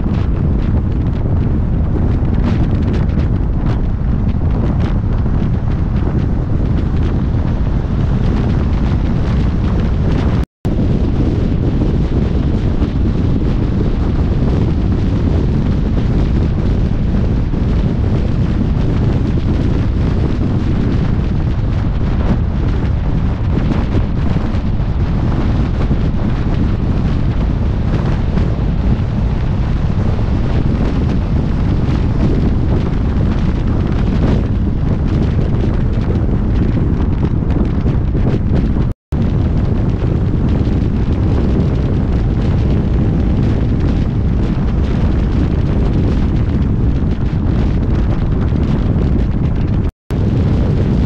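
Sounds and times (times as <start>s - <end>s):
low rumble: 0.0s - 51.0s
wind buffeting microphone: 0.0s - 51.0s.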